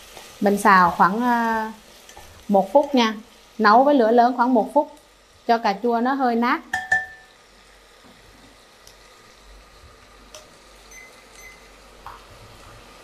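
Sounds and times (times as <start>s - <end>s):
tomatoes sizzling in oil: 0.0s - 13.0s.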